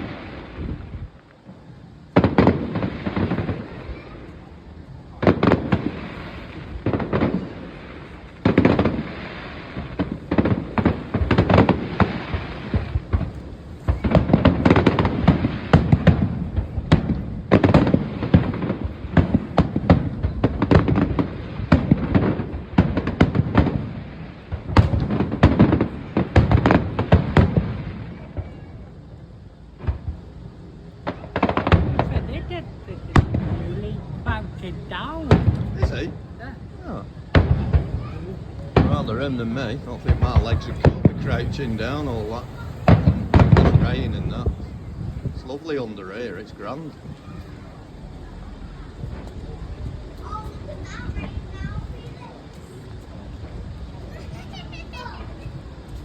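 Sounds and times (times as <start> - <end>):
fireworks bursts bangs and crackling: 0.0 - 56.0.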